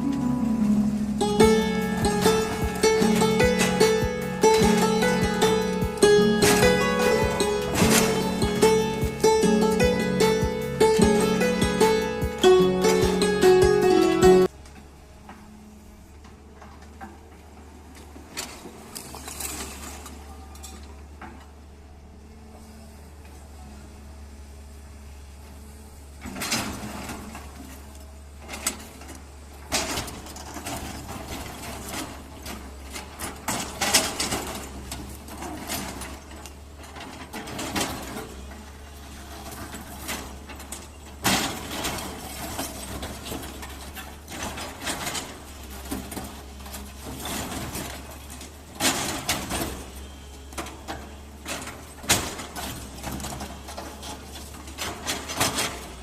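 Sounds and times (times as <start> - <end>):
excavator engine droning: 0.0 - 19.2, 20.0 - 56.0.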